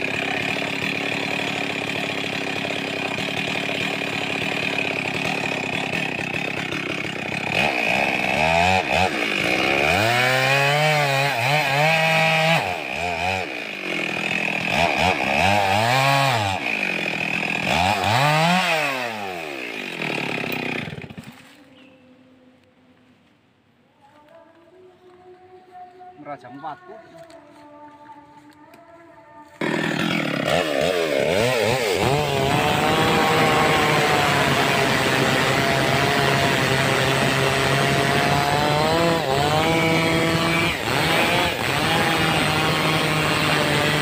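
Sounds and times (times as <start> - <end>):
chainsaw revving: 0.0 - 21.6, 29.6 - 44.0.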